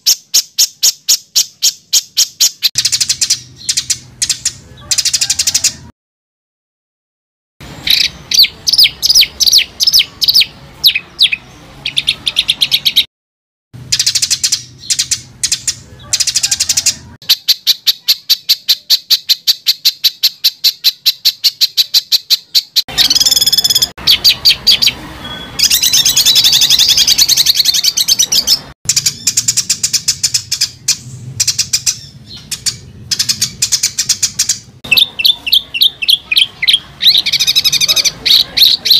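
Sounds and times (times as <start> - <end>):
songbird harsh rapid repeated notes: 0.0 - 5.8, 7.8 - 13.1, 13.8 - 38.9.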